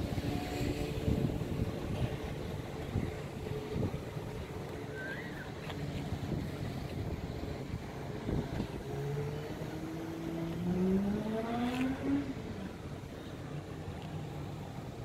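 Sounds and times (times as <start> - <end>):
vehicle engine accelerating: 0.0 - 13.6.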